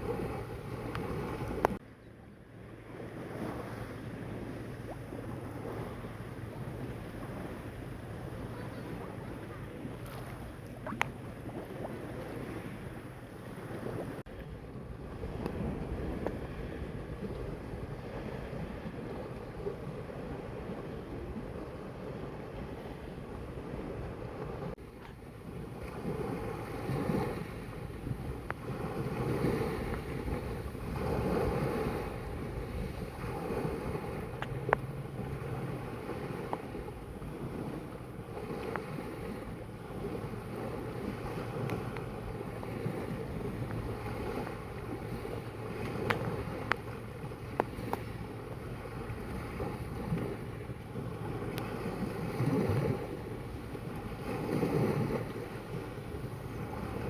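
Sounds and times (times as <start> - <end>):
wind on microphone: 0.0 - 1.8, 2.5 - 57.0
sea water lapping: 0.0 - 57.0.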